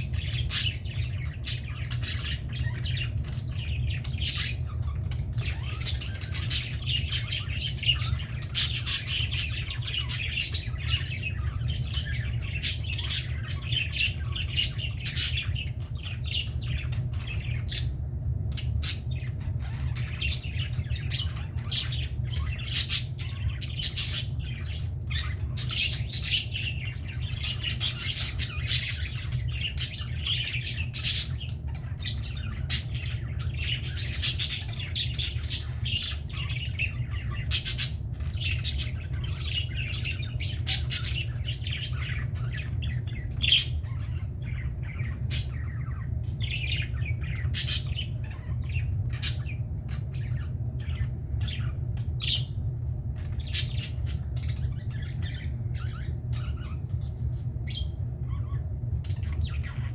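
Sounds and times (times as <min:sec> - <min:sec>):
budgerigars chattering and squawking: 0:00.0 - 0:59.9
steady low hum: 0:00.0 - 0:59.9.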